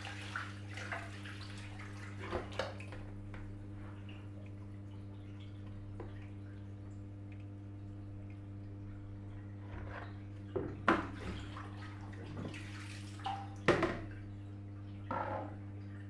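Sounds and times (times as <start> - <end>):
low electrical hum: 0.0 - 16.0
water splashing and dripping: 0.0 - 16.0.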